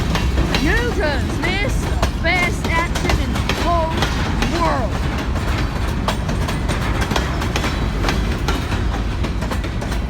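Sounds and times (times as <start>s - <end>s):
wheels clicking over rail joints: 0.0s - 10.0s.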